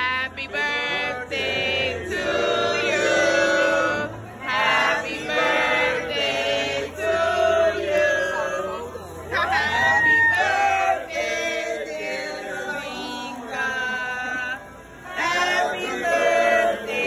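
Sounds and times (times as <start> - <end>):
group singing in chorus: 0.0 - 17.0.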